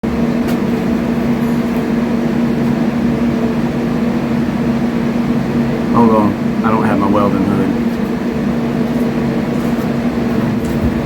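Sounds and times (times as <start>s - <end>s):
electrical machine hum: 0.0s - 11.0s.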